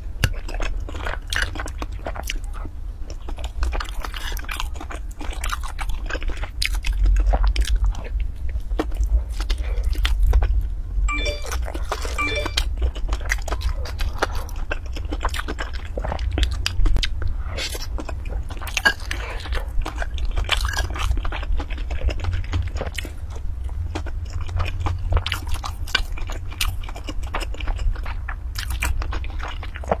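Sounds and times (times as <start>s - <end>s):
person chewing: 0.2s - 30.0s.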